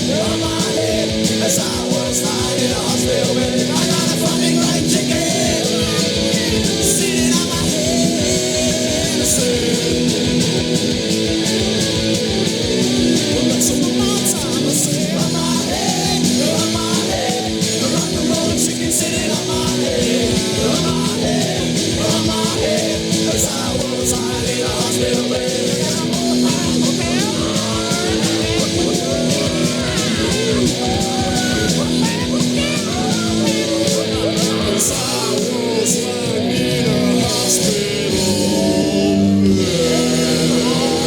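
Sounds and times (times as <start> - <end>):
distorted electric guitars: 0.0 - 41.0
drums: 0.0 - 41.0
person singing: 0.0 - 41.0
punk rock song: 0.0 - 41.0.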